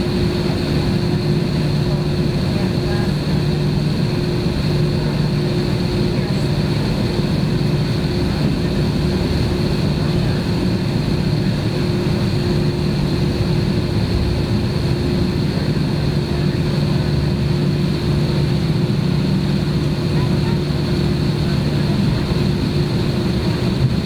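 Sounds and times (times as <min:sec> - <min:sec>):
airliner cabin engine hum: 0:00.0 - 0:24.0.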